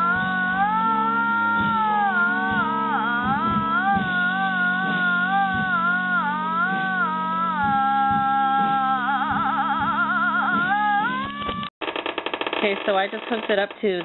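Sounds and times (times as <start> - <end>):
low electrical hum: 0.0 - 11.7
theremin gliding tone: 0.0 - 11.7.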